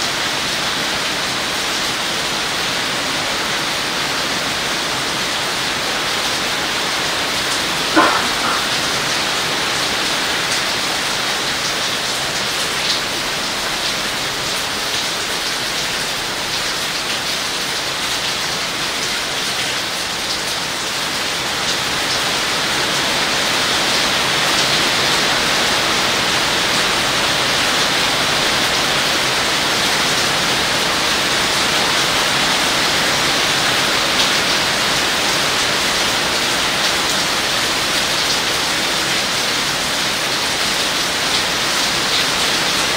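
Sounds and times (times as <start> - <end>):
heavy rain falling on leaves: 0.0 - 42.9.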